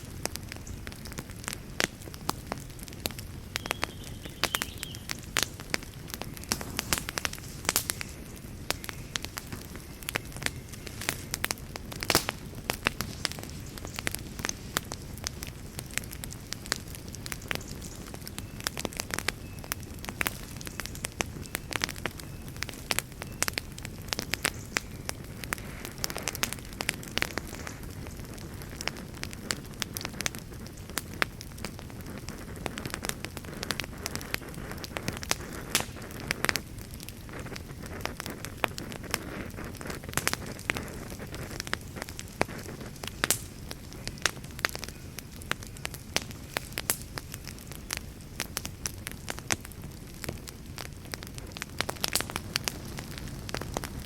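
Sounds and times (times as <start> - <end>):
burning wood crackling: 0.0 - 54.0
fire flames rumbling: 0.0 - 54.0.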